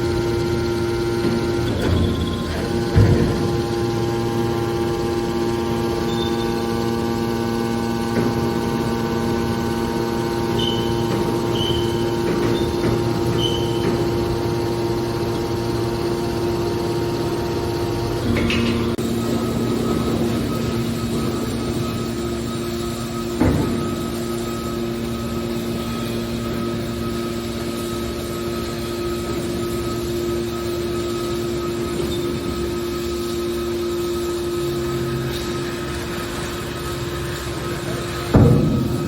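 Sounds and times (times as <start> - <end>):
hydraulic baler humming: 0.0 - 39.0.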